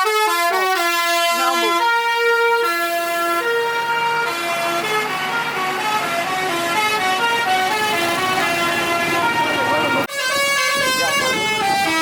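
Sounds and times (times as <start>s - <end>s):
musical bus horn playing a tune: 0.0s - 12.0s.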